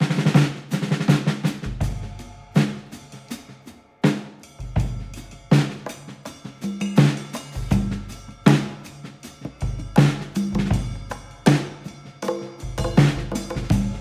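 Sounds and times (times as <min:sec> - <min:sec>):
drum-led music track: 0:00.0 - 0:14.0.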